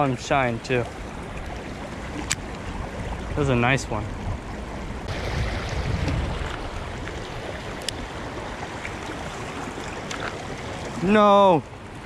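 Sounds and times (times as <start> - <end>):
river water over rocks: 0.0 - 12.0
wind rumbling on microphone: 0.0 - 12.0.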